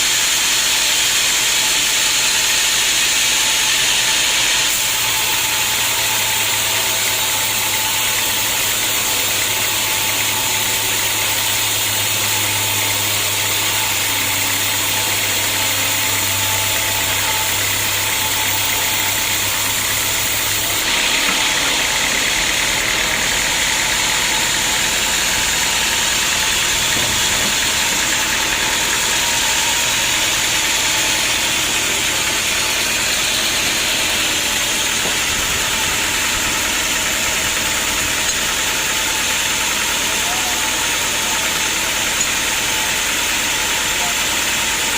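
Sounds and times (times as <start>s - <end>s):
sawmill engine and blade sawing log: 0.0s - 44.9s.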